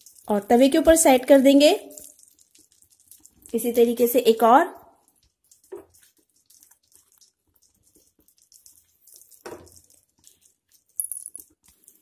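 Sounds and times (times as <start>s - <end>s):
butter sizzling: 0.0s - 12.0s
wet squelching of battered bread: 0.0s - 12.0s.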